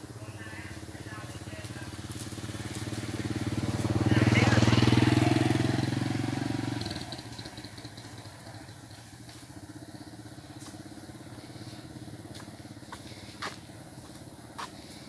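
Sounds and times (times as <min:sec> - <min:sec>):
low engine hum: 0:00.0 - 0:15.0
motorcycle engine dying: 0:00.0 - 0:15.0.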